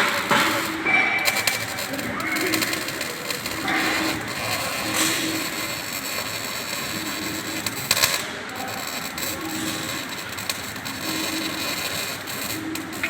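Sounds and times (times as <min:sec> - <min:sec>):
crackling hiss of workshop tool: 0:00.0 - 0:13.0.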